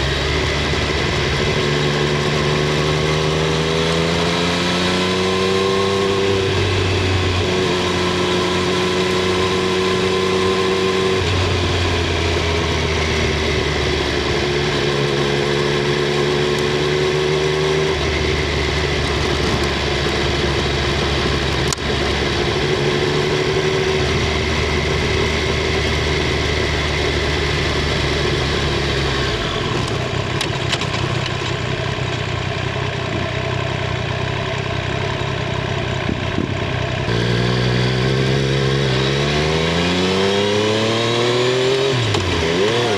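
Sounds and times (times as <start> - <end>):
motorcycle engine and exhaust running: 0.0 - 42.9.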